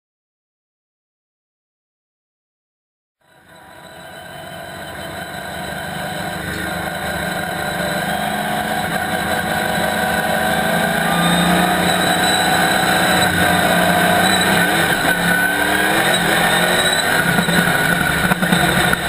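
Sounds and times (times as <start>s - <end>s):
race car engine running: 3.2s - 19.0s.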